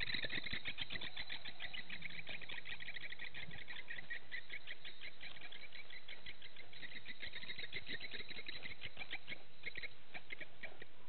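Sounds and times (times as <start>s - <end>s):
chorus of chirping animals: 0.0s - 11.0s.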